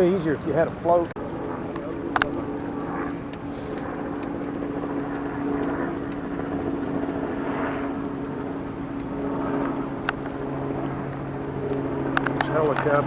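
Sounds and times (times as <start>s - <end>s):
helicopter engine drone: 0.0s - 13.0s.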